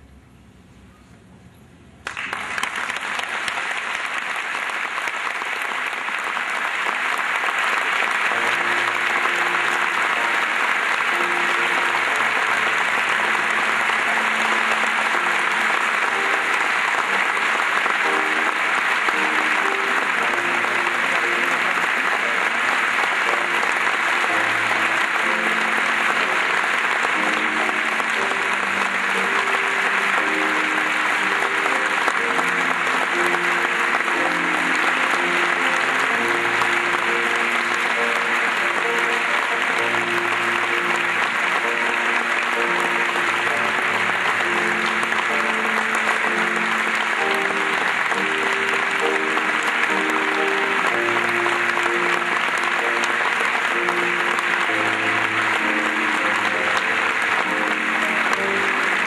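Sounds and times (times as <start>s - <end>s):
audience applauding: 2.0s - 59.0s
slow instrumental melody: 7.6s - 59.0s.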